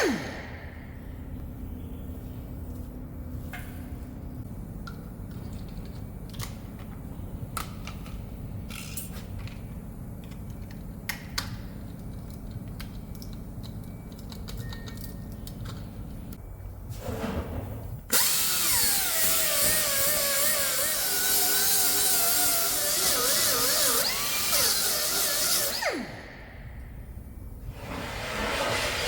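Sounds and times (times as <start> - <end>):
steady low hum: 0.0 - 18.2, 19.0 - 29.0.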